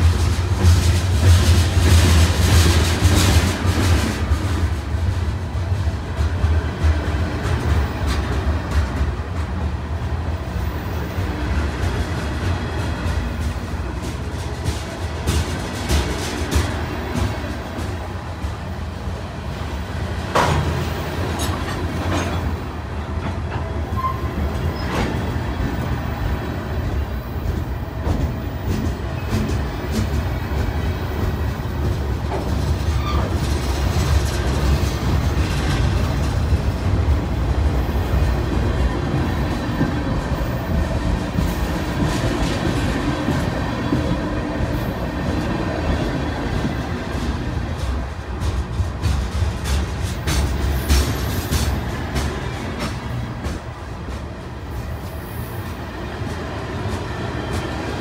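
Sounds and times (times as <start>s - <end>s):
train cars clanking: 0.0s - 58.0s
train wheels rumbling on rail: 0.0s - 58.0s.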